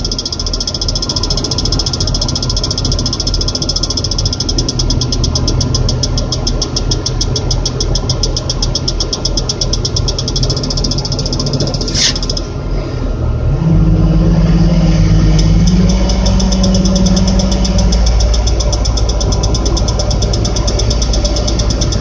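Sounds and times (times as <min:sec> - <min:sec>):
rapid high alarm beeps: 0:00.0 - 0:12.5, 0:14.0 - 0:22.0
crane engine drone: 0:00.0 - 0:22.0.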